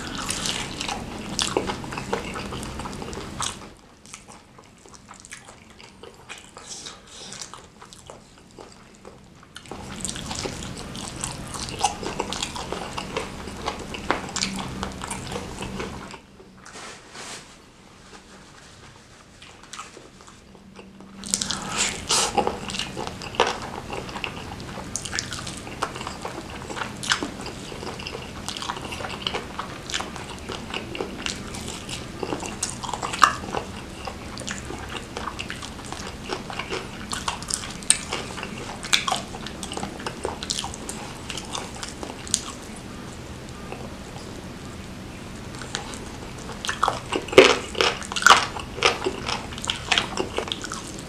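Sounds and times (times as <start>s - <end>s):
person chewing and lip smacking: 0.0s - 16.5s, 19.4s - 44.4s, 45.4s - 51.0s.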